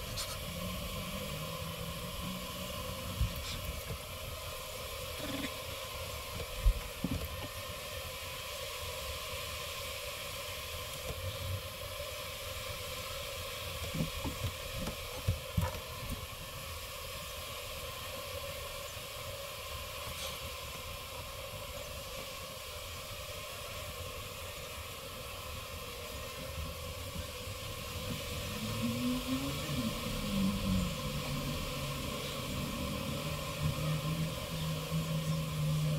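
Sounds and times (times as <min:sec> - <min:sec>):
steady hiss: 0:00.0 - 0:35.9.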